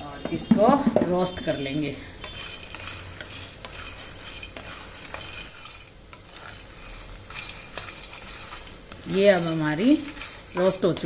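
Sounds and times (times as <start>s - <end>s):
wooden spatula scraping a pan: 0.0s - 11.0s
seeds clicking against a pan: 1.2s - 11.0s.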